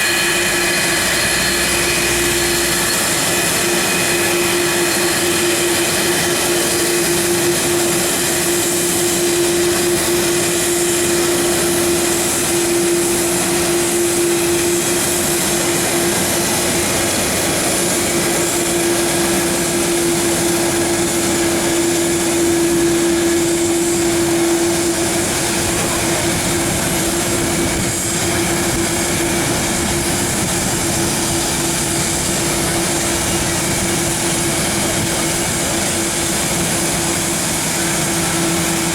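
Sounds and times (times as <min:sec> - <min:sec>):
aircraft engines droning: 0:00.0 - 0:38.9.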